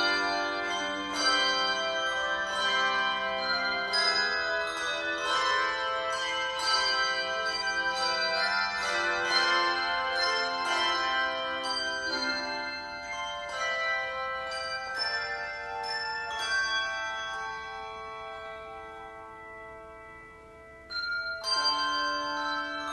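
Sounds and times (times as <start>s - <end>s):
ringing bell-like tones: 0.0s - 22.9s.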